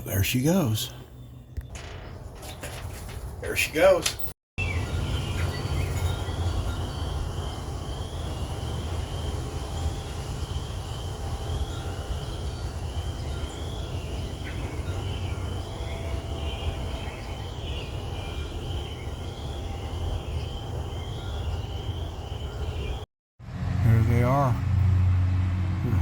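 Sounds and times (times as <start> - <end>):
high wavering chirp: 0.0 - 2.2, 3.7 - 23.0.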